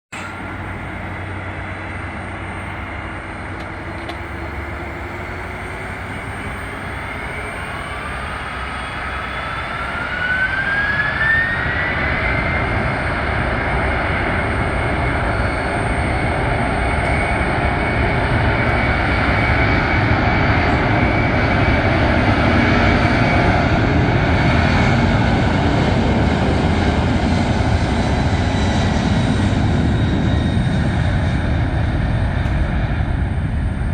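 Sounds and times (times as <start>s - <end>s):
jet engines spooling up: 0.1s - 33.9s
rising engine whine: 0.1s - 33.9s.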